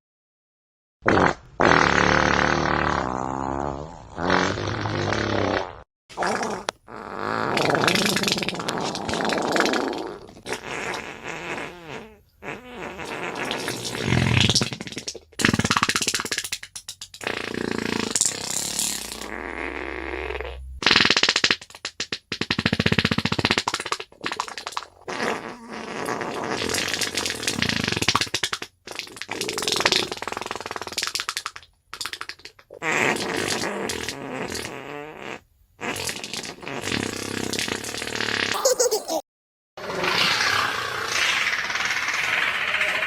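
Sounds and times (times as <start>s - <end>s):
fart sound effects: 1.0s - 16.4s, 17.2s - 31.1s, 32.0s - 39.2s, 39.8s - 43.0s.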